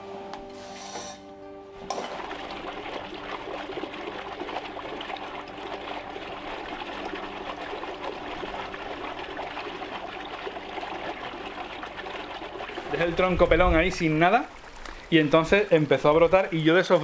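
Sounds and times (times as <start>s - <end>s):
water trickling into pond: 2.0s - 17.0s.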